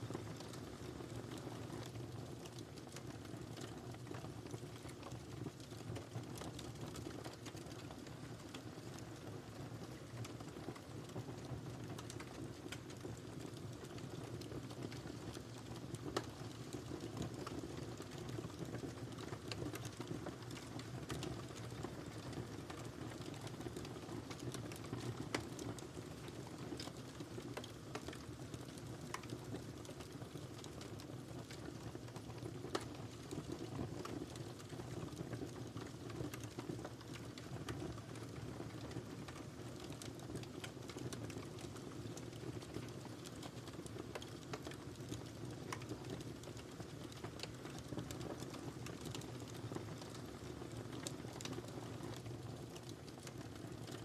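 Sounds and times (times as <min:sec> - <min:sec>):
wood fire crackling in fireplace: 0:00.0 - 0:54.0.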